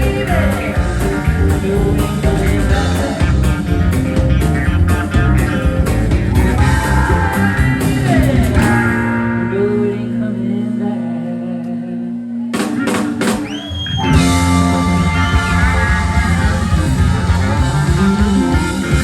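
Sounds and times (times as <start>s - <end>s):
drums crashing: 0.0s - 9.3s, 12.6s - 19.0s
country-rock band playing: 0.0s - 10.7s, 12.6s - 19.0s.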